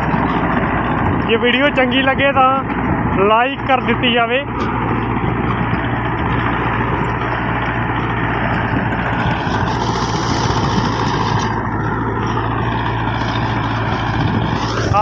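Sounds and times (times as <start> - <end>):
rotavator blades churning soil: 0.0 - 15.0
tractor diesel engine under load: 0.0 - 15.0.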